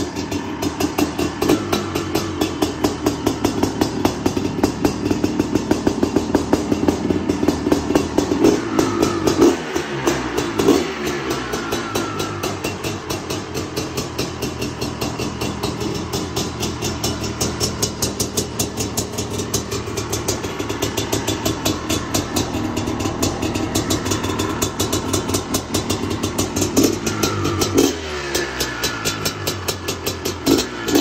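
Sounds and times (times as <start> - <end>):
engine throttle blips: 0.0 - 31.0
two-stroke engine idling: 0.0 - 31.0.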